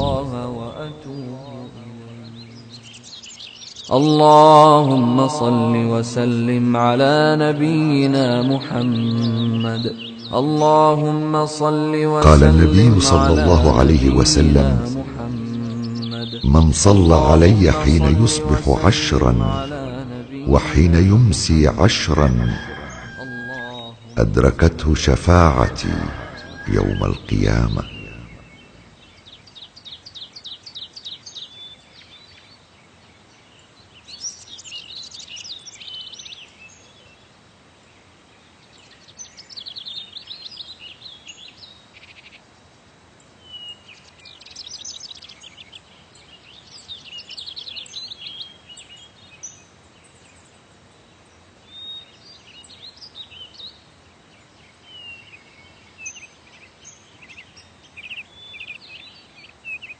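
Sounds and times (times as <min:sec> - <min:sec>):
faint steady hiss: 0:00.0 - 0:59.9
songbirds trilling: 0:00.0 - 0:59.9.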